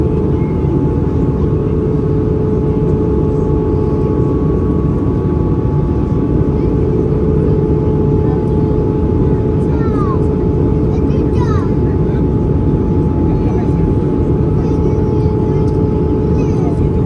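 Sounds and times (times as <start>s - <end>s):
airplane cabin rumble: 0.0s - 17.0s
constant hum: 0.0s - 17.0s.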